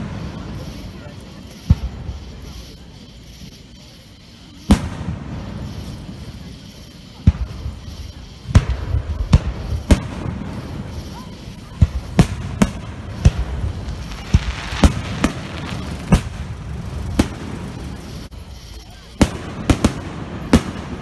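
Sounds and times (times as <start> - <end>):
firework bangs: 0.0 - 3.0, 4.4 - 21.0
firework hiss: 0.0 - 21.0.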